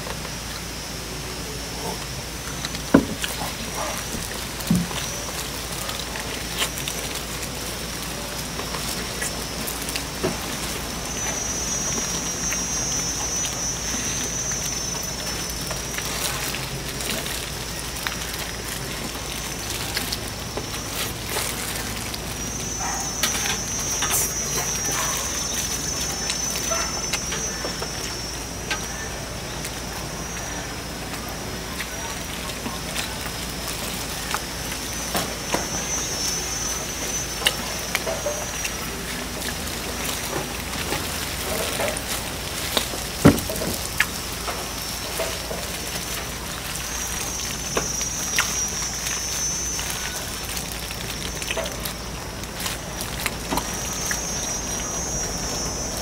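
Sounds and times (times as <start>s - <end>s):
steady background noise: 0.0s - 56.0s.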